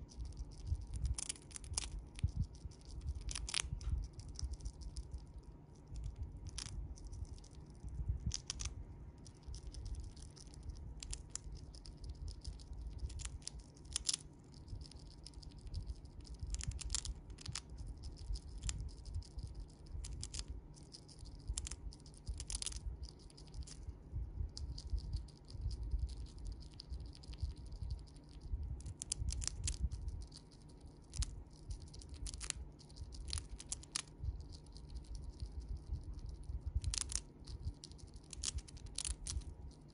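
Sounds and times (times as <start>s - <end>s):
chipmunk crunching food: 0.0s - 39.9s.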